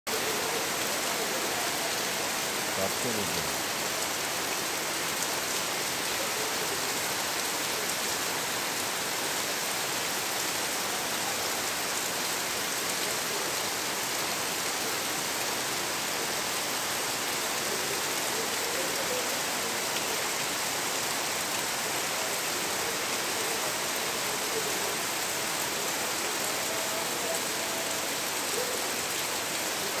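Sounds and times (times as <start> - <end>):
rain falling on leaves: 0.1 - 30.0.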